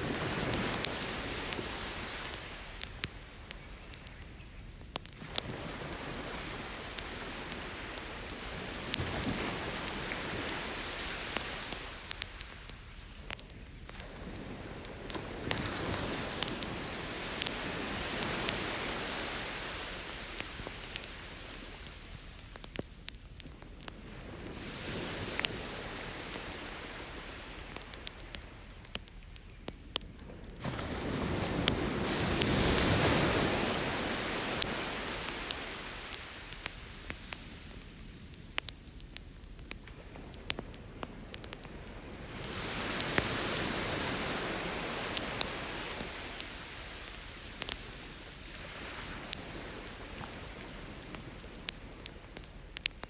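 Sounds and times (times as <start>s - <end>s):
beach surf: 0.0s - 53.0s
campfire crackling with pops: 0.0s - 53.0s.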